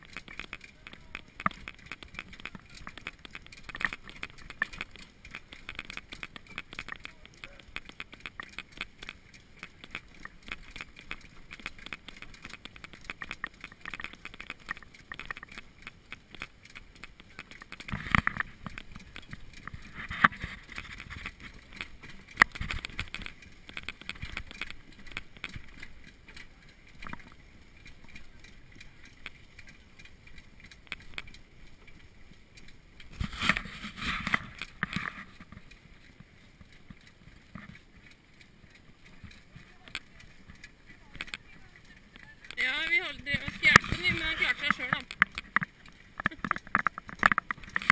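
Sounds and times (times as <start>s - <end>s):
cart and harness rattling: 0.0s - 47.9s
horse hooves on gravel: 0.0s - 47.9s.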